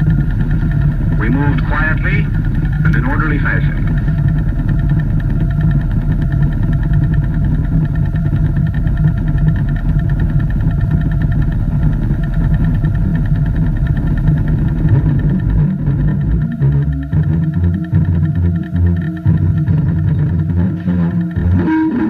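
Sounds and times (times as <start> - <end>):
low droning tone with flutter: 0.0 - 22.0.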